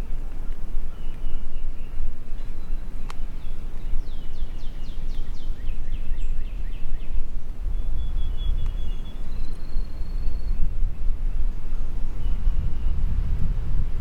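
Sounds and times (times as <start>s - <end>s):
songbird singing: 0.0s - 14.0s
wind buffeting microphone: 0.0s - 14.0s.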